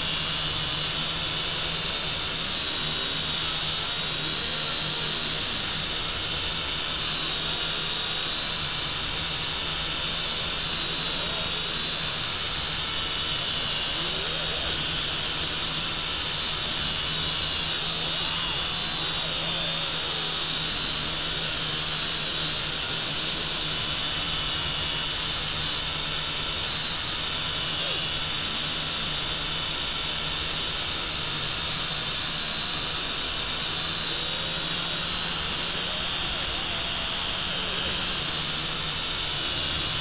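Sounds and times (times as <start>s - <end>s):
drone propellers whirring: 0.0s - 40.0s.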